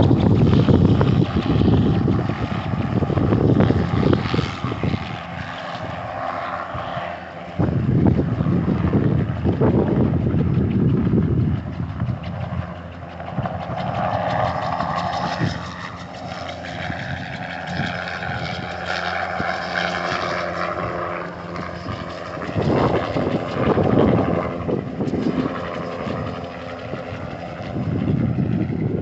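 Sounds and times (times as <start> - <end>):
helicopter engine hum: 0.0 - 29.0
helicopter rotor noise: 0.0 - 29.0.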